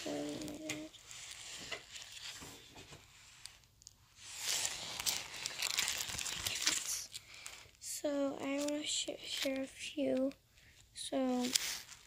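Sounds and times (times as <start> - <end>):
plastic sleeves crinkling: 0.0 - 12.0.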